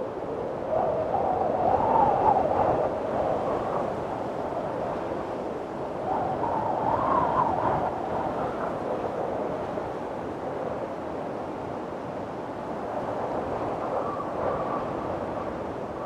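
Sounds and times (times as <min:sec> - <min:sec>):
howling gusty wind: 0:00.0 - 0:16.0.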